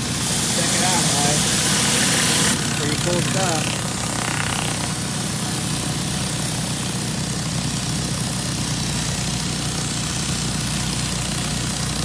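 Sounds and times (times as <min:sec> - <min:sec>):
high-pressure water spraying on concrete: 0:00.0 - 0:12.0
pressure washer engine running: 0:00.0 - 0:12.0.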